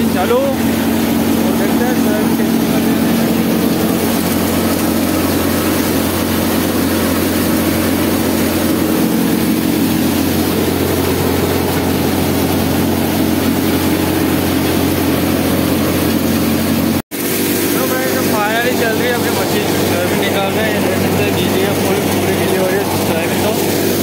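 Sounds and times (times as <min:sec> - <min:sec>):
thresher running: 0:00.0 - 0:24.0
tractor engine droning: 0:00.0 - 0:24.0.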